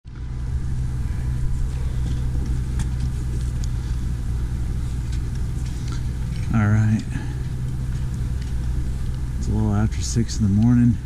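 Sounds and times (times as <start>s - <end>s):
engine idling: 0.1s - 11.0s.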